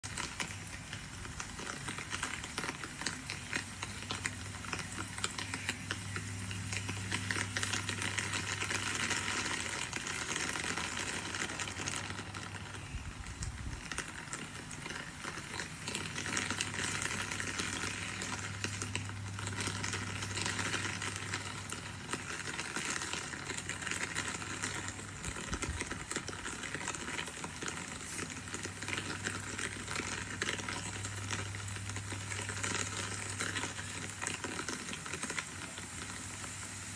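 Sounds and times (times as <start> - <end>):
low steady hum: 0.0 - 36.9
steady rain falling: 0.0 - 36.9.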